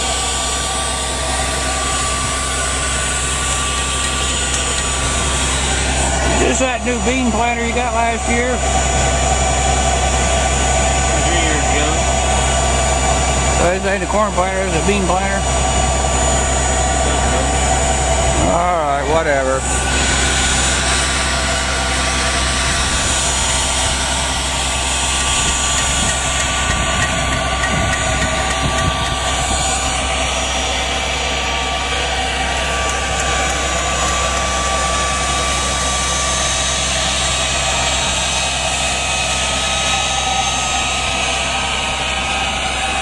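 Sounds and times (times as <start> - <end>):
thin steady whine: 0.0 - 43.0
tractor engine droning: 0.0 - 43.0.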